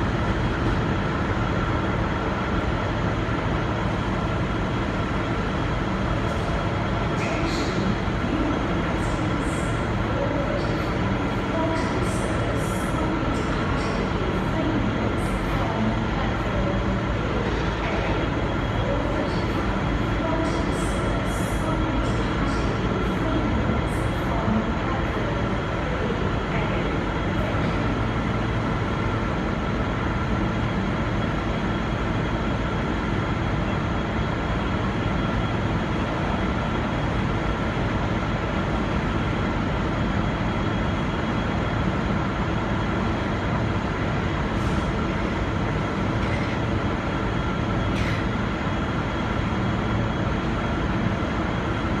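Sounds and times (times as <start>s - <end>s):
diesel train rumbling: 0.0s - 52.0s.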